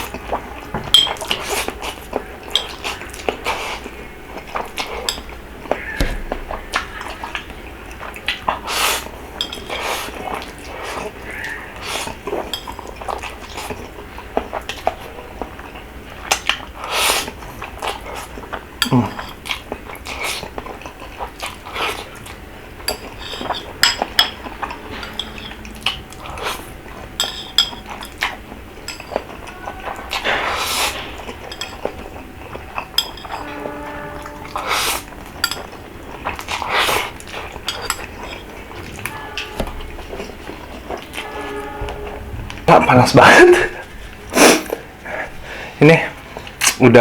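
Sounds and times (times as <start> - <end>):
utensils clinking against a bowl: 0.0 - 43.8.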